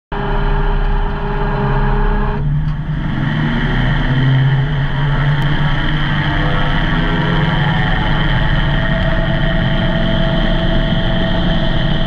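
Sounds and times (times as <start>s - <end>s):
gyrocopter engine droning: 0.1s - 12.0s.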